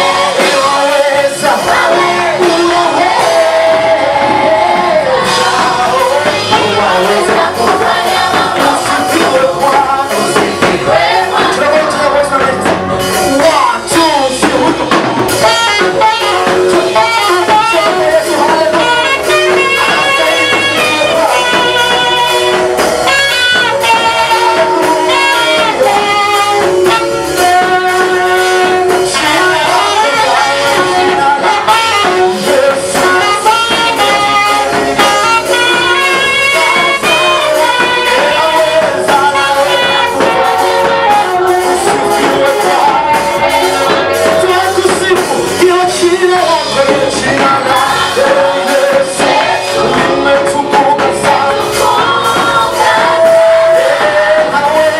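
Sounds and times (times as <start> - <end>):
people singing: 0.0 - 54.9
praise band playing: 0.0 - 54.9.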